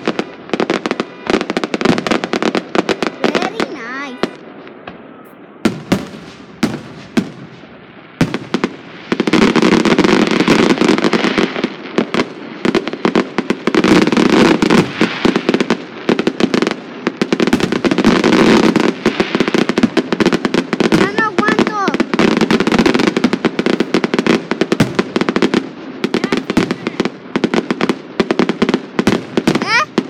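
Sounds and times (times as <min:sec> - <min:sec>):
firework bangs: 0:00.0 - 0:30.0
fireworks popping and crackling: 0:00.0 - 0:30.0.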